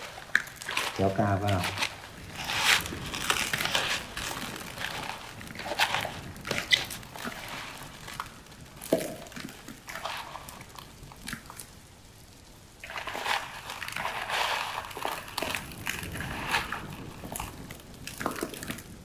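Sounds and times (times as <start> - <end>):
eggplants scraping across floor: 0.0 - 10.9, 12.8 - 18.9.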